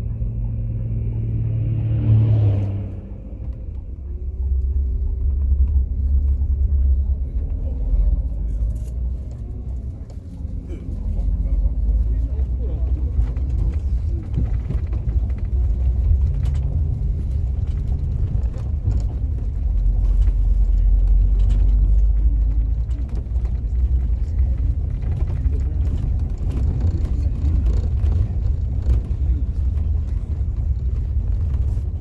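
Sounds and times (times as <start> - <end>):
diesel engine low rumble: 0.0 - 32.0.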